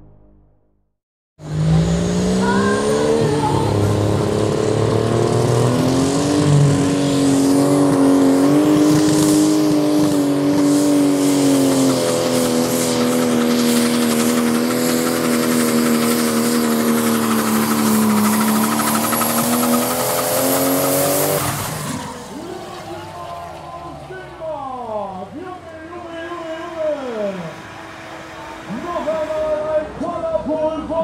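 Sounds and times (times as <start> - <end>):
tractor engine running flat out: 1.4 - 31.0.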